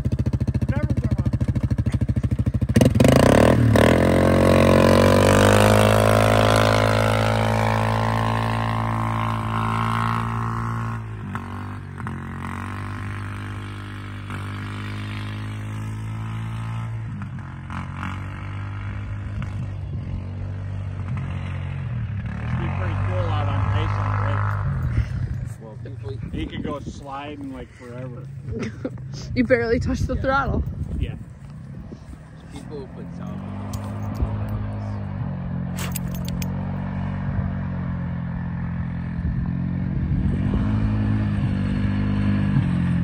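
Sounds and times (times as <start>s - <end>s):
engine revving: 0.0s - 28.3s, 29.1s - 43.0s.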